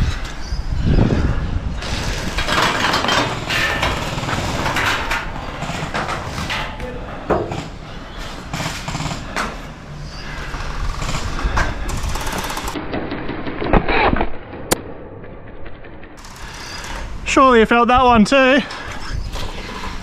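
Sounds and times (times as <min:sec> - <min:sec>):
steady rustling: 0:00.0 - 0:17.6.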